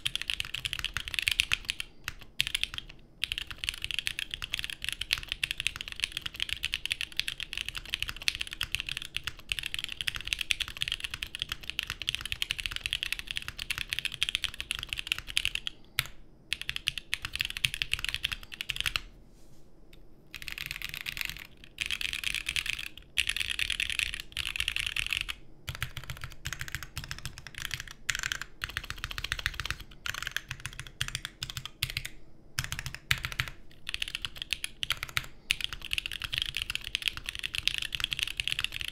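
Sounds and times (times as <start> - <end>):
fast typing on mechanical keyboard: 0.0 - 19.0, 20.3 - 38.9.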